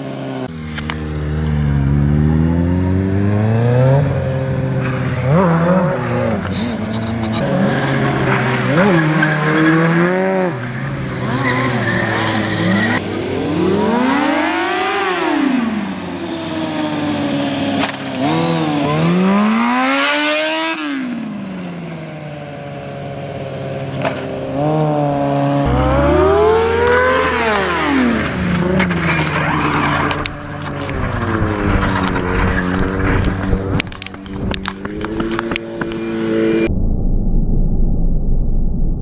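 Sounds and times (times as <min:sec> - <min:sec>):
motorcycle engines revving: 0:00.0 - 0:36.7.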